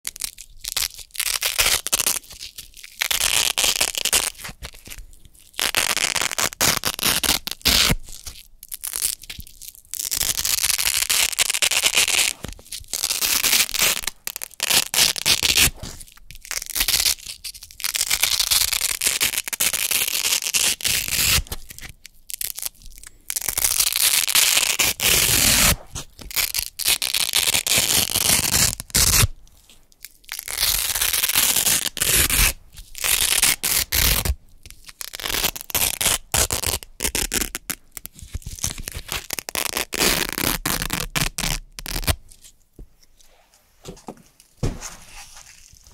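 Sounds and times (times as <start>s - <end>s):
velcro ripping apart: 0.0s - 42.6s.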